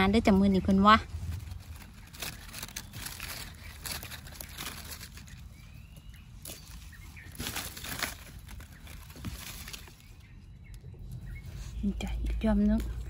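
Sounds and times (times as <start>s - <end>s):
dry leaves and twigs rustling: 0.0s - 13.0s.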